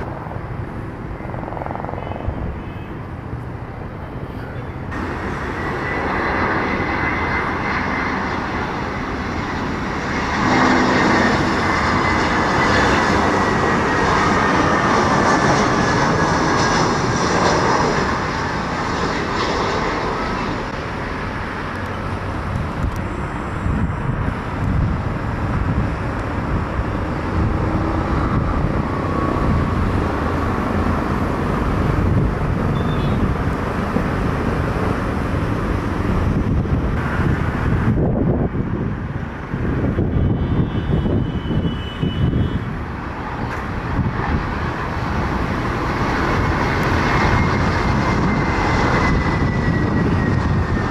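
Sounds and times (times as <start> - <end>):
jet engine whine: 0.0 - 50.9
jet rumbling on runway: 0.0 - 50.9.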